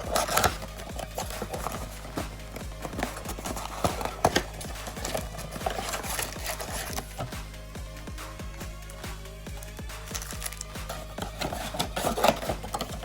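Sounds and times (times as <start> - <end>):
trading cards being handled: 0.0 - 7.7, 8.3 - 13.0
background music with steady beat: 0.0 - 13.0.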